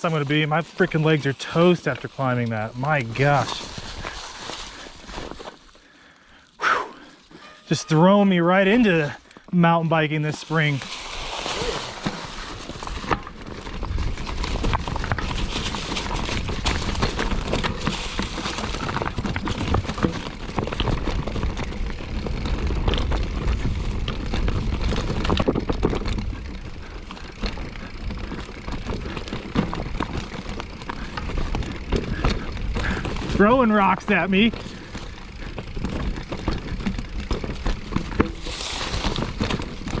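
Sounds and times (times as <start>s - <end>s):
bike rattling: 0.0s - 40.0s
bike tyres crunching over rocks: 0.0s - 40.0s.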